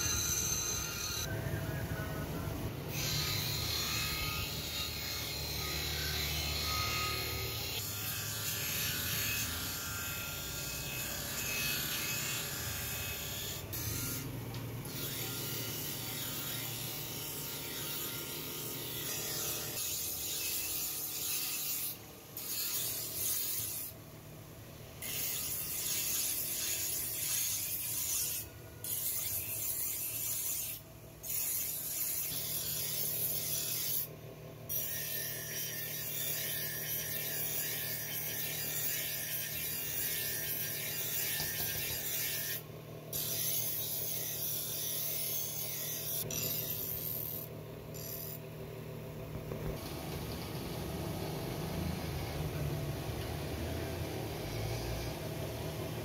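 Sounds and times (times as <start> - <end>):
grinding wheel grinding metal: 0.0 - 1.3, 2.9 - 24.0, 25.0 - 34.1, 34.7 - 48.5.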